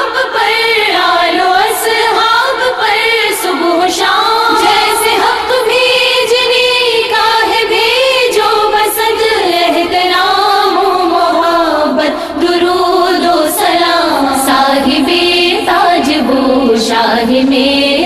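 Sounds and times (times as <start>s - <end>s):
women singing together: 0.0s - 18.0s.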